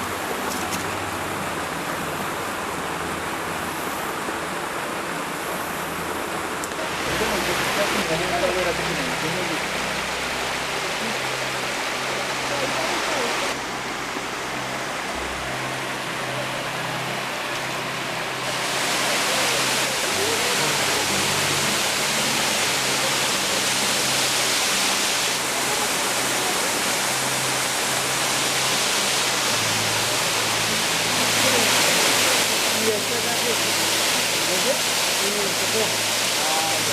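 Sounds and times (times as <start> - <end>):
cascade water rushing: 0.0 - 36.9.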